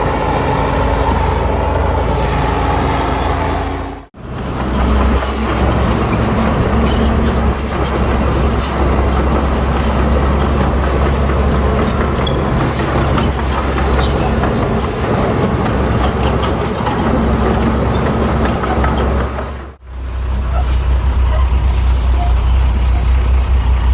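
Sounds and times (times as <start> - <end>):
bulldozer diesel engine running: 0.0 - 23.9
steel tracks clanking: 0.0 - 23.9.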